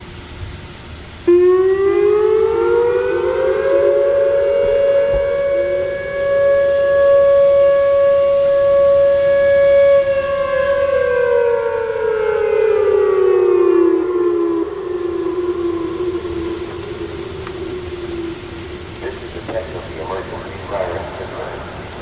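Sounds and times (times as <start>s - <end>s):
electronic warning siren tone: 1.3s - 21.5s.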